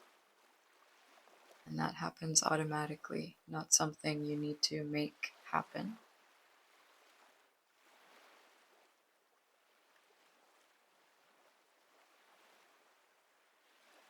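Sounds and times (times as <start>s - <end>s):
faint ocean waves: 0.0s - 14.0s.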